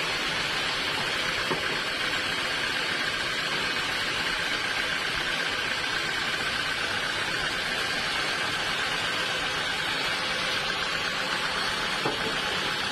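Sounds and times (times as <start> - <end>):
sawmill saw hissing: 0.0 - 12.9.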